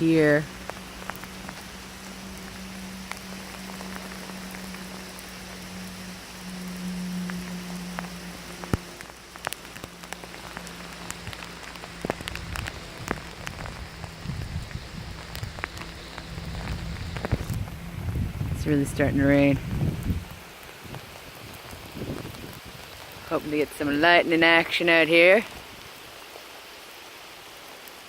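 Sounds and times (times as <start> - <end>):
low steady hum: 0.0 - 25.5
raindrops tapping close by: 0.0 - 28.0
steady rain: 0.0 - 28.0.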